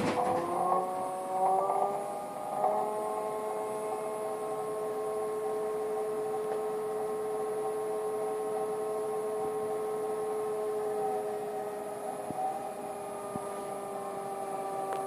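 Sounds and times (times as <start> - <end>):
electric hub motor whine: 0.0 - 15.0.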